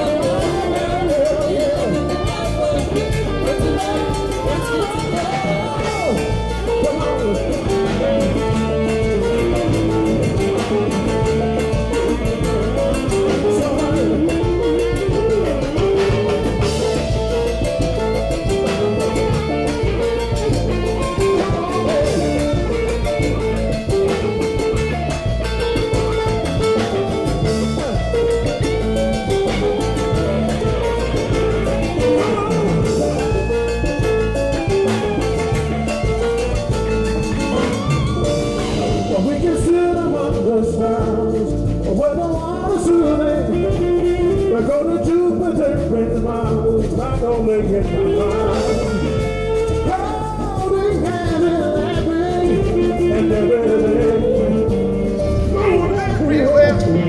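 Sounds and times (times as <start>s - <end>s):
congas and timbales: 0.0s - 57.0s
latin band playing: 0.0s - 57.0s
maracas shaking: 0.0s - 57.0s.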